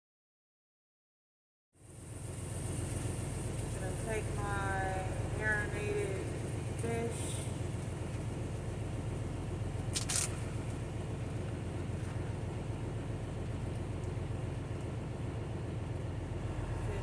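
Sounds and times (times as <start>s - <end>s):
truck engine idling: 1.8s - 17.0s.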